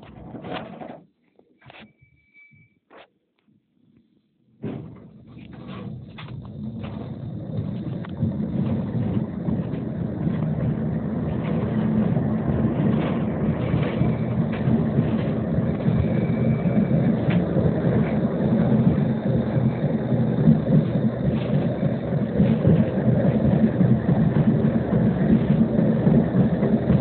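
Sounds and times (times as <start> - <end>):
tram rumble and hum: 4.6 - 27.0.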